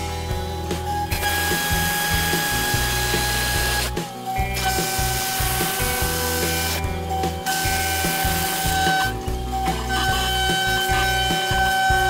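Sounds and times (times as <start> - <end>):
router spindle whining: 1.0 - 12.0
milling cutter hissing: 1.1 - 6.9, 7.5 - 12.0.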